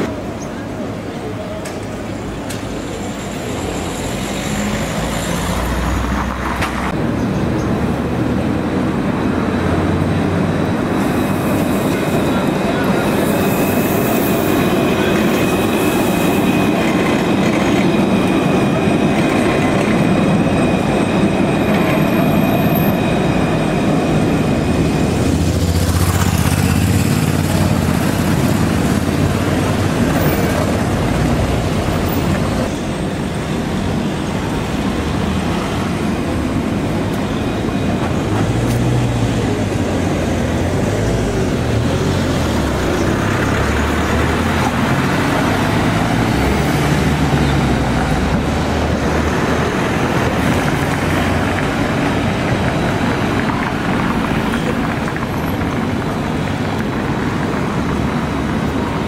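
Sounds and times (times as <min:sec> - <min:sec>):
tram wheels rumbling: 0:00.0 - 0:59.0.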